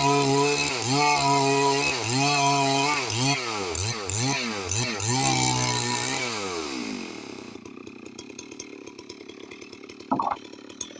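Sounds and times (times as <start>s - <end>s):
chainsaw revving and idling: 0.0s - 10.9s.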